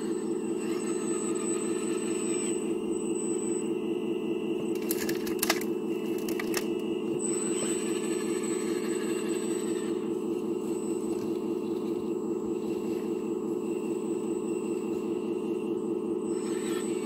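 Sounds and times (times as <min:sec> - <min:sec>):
steady motor hum: 0:00.0 - 0:17.0.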